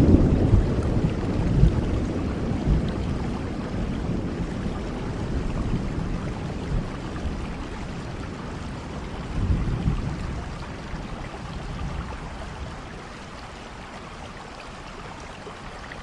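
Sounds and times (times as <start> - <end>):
thunder rumbling: 0.0 - 12.9
steady rainfall: 0.0 - 16.0.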